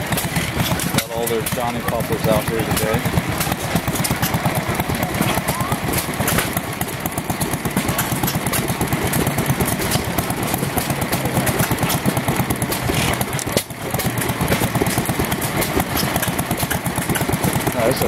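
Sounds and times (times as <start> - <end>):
stationary gas engines popping: 0.0 - 18.0.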